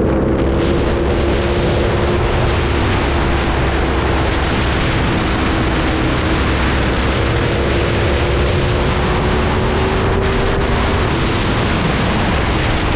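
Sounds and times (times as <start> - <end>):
motorcycle engine accelerating: 0.0 - 12.9
wind rush on microphone: 0.0 - 12.9.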